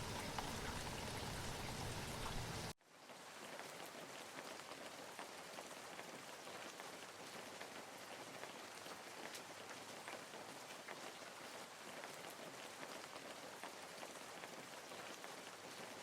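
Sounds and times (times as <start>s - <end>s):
light ticks of raindrops: 0.0s - 16.0s
rain pattering: 0.0s - 16.0s.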